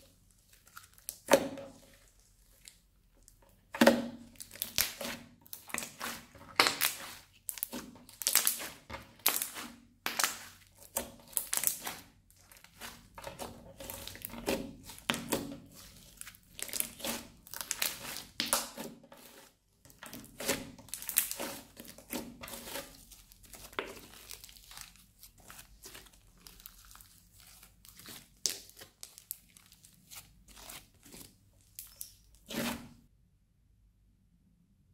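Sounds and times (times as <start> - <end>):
crunchy slime crackling and popping: 0.0 - 33.0.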